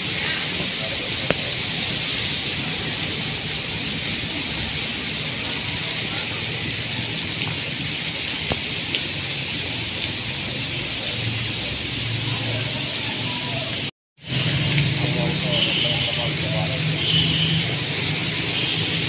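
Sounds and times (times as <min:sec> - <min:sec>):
heavy rain pouring: 0:00.0 - 0:19.0
raindrops ticking close by: 0:00.0 - 0:19.0.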